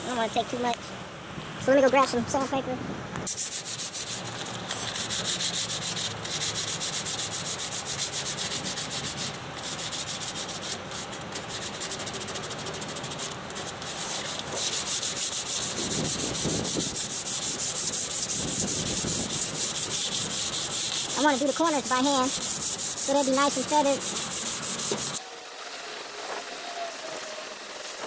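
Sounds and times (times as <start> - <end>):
sandpaper on painted metal: 3.3 - 28.0.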